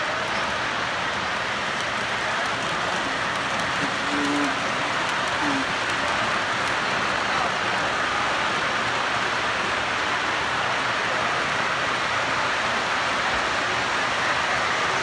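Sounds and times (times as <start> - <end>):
model train wheels rumbling on rails: 0.0 - 15.0.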